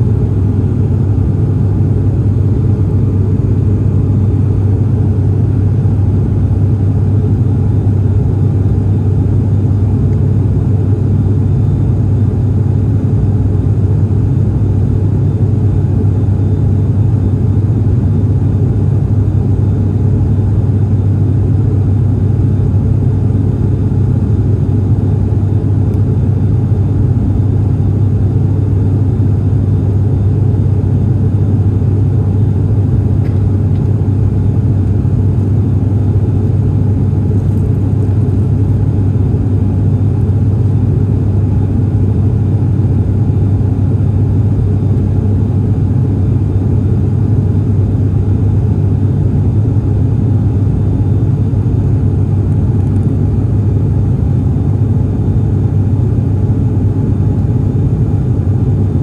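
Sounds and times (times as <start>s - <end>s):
turboprop cabin drone: 0.0s - 59.0s.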